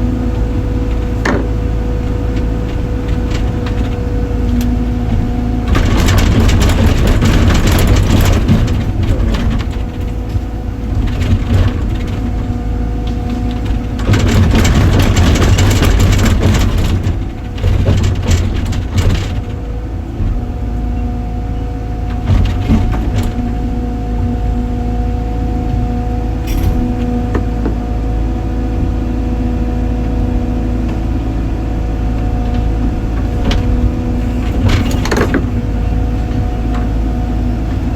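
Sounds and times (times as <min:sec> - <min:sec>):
diesel engine running: 0:00.0 - 0:37.9
grinding crunching clatter: 0:00.0 - 0:37.9.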